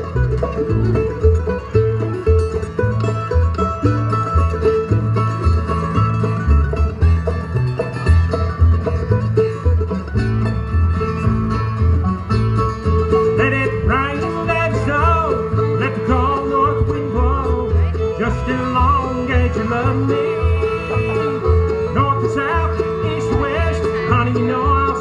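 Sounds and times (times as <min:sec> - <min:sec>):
bluegrass band playing: 0:00.0 - 0:25.0
sliding melody line: 0:00.0 - 0:25.0.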